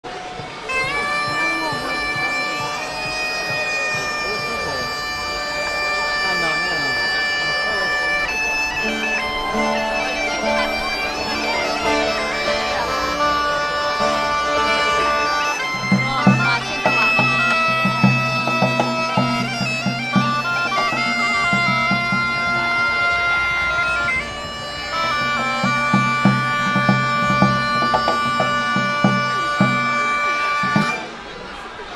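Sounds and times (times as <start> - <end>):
drums beating: 0.0 - 31.9
bagpipes playing a folk melody: 0.1 - 31.9.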